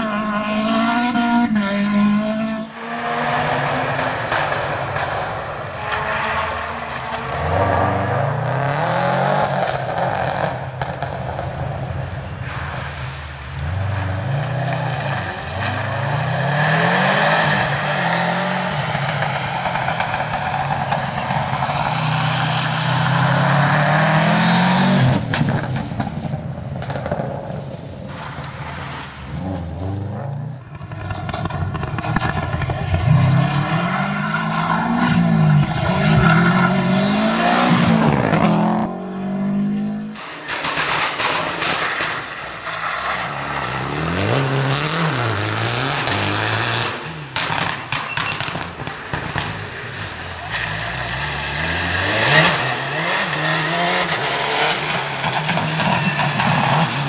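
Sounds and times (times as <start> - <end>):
rally car engines revving hard: 0.0 - 12.2, 13.5 - 57.0.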